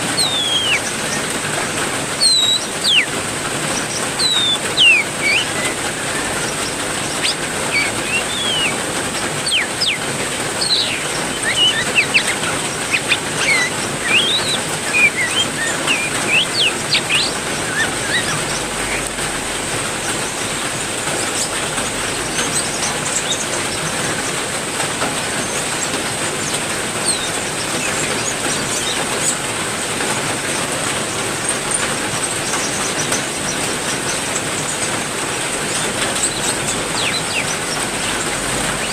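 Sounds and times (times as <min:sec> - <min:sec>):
heavy rain: 0:00.0 - 0:38.9
small birds chirping: 0:00.0 - 0:38.9.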